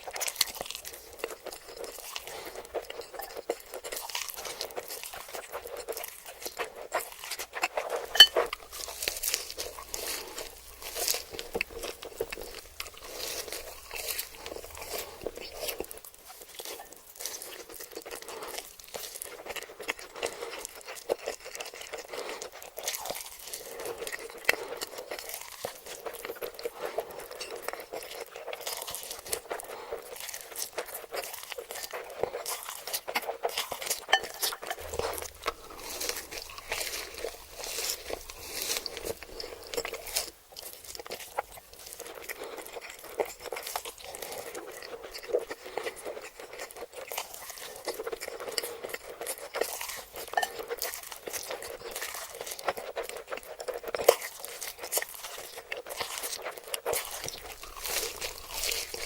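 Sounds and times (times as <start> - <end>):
crunchy food being chewed: 0.0 - 59.0.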